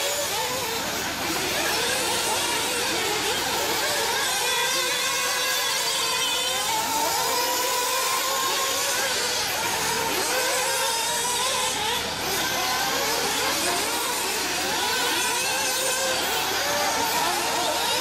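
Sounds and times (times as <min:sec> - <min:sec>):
model car engines buzzing: 0:00.0 - 0:18.0.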